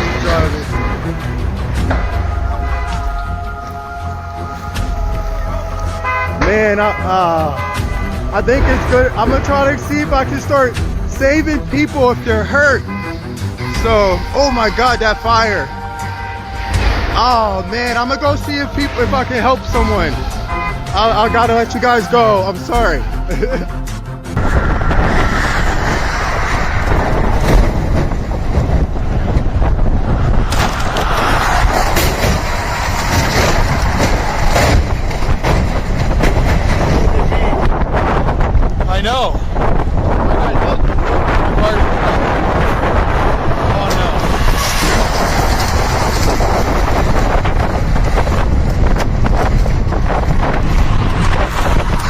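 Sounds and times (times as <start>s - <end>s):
road vehicle rumble: 0.0s - 52.0s
wind buffeting microphone: 0.0s - 52.0s.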